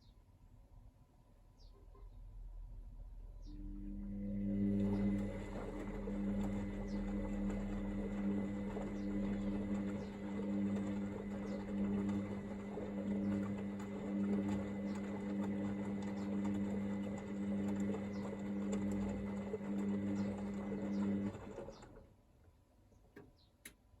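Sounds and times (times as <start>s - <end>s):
washing machine motor humming: 2.8s - 22.2s.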